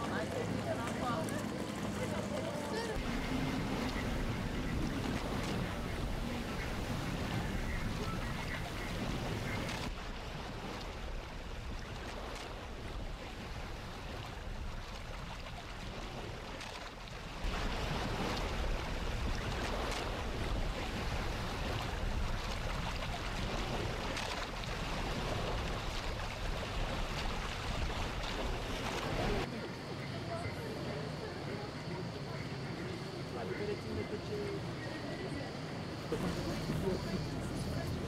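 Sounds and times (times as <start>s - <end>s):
motor boat engine rumble: 0.0s - 30.1s, 31.2s - 38.0s
rushing water: 0.0s - 38.0s
wind: 0.0s - 38.0s.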